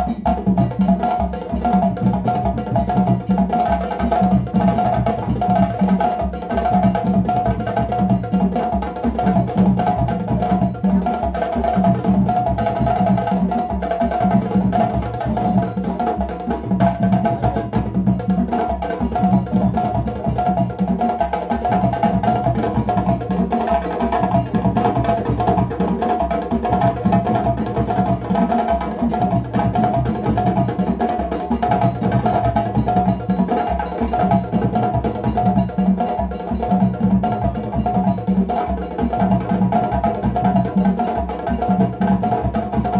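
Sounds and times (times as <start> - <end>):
djembe drums playing: 0.0 - 42.9.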